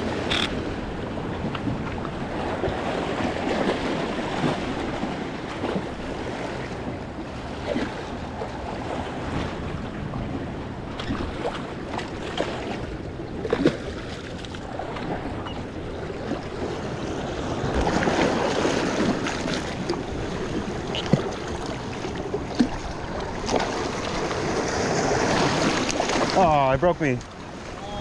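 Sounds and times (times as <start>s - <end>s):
waves splashing against rocks: 0.0s - 6.8s, 7.4s - 28.0s
wind rumbling on microphone: 0.0s - 26.4s.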